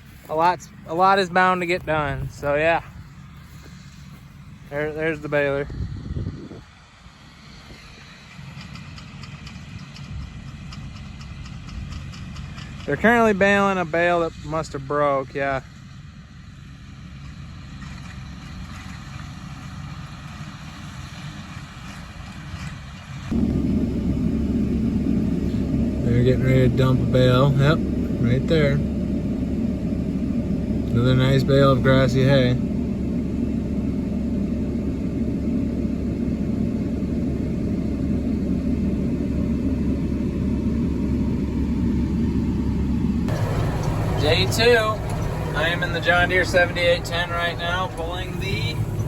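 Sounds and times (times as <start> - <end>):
tractor engine rumbling: 0.0 - 49.0.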